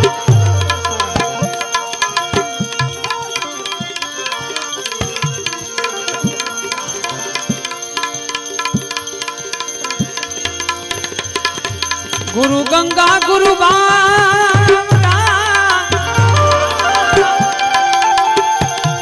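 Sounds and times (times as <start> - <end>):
harmonium melody: 0.0 - 19.0
tabla beat: 0.0 - 19.0.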